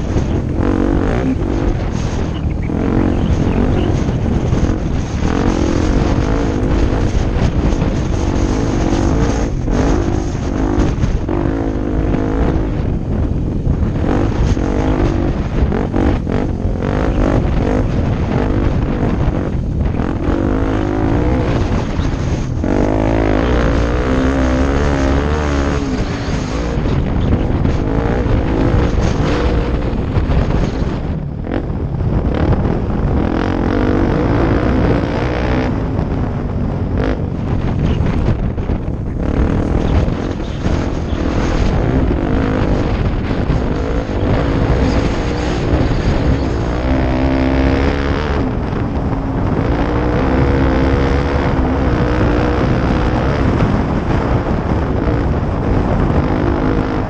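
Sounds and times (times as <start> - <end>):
off-road motorcycle engine revving: 0.0 - 57.0
wind buffeting microphone: 0.0 - 57.0.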